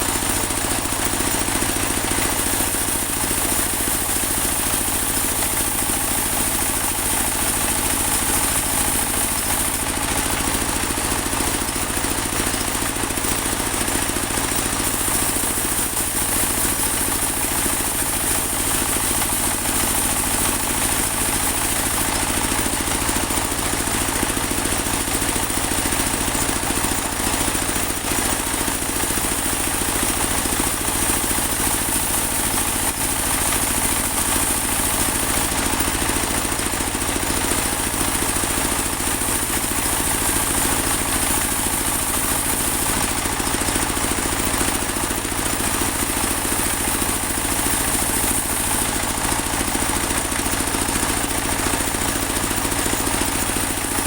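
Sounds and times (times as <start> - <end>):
bandsaw mill droning: 0.0 - 54.0.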